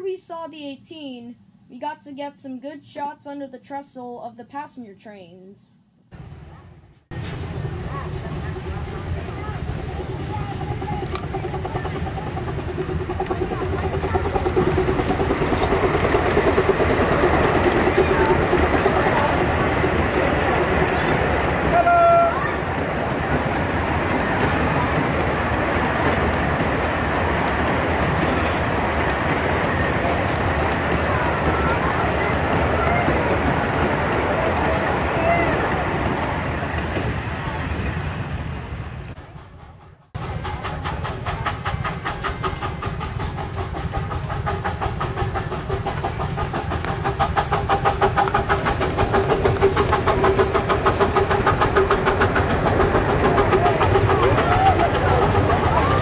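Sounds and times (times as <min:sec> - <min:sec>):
train cars rumbling and rattling: 0:06.2 - 0:56.0
wheels clicking over rail joints: 0:07.2 - 0:37.5, 0:40.2 - 0:56.0.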